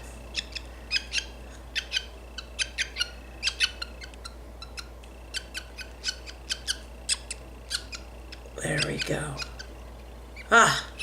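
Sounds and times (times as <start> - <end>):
budgie chick squawking: 0.3 - 9.7.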